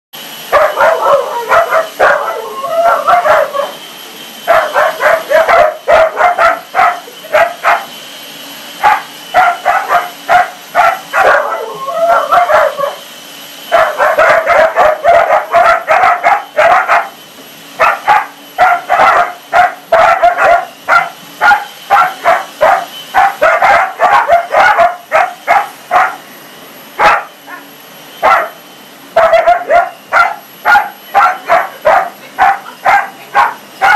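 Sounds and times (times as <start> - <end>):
steady background whine: 0.2 - 33.9
dog yapping barks: 0.5 - 3.8, 4.5 - 7.9, 8.8 - 13.0, 13.7 - 17.2, 17.8 - 26.2, 27.0 - 28.6, 29.2 - 33.9.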